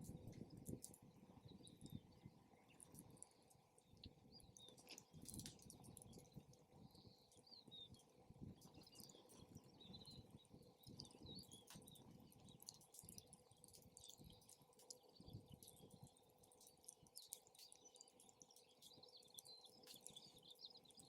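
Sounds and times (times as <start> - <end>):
small birds chirping: 0.0 - 21.0
wood fire crackling: 0.0 - 21.0.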